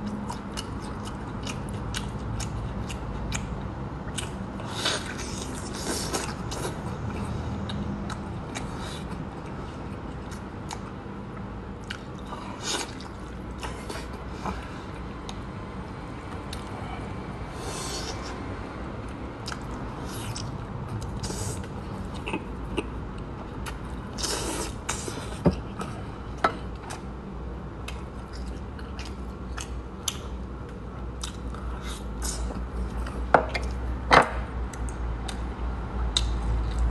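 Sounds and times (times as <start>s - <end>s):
person chewing and lip-smacking: 0.0s - 15.5s, 19.0s - 27.1s, 27.7s - 36.9s.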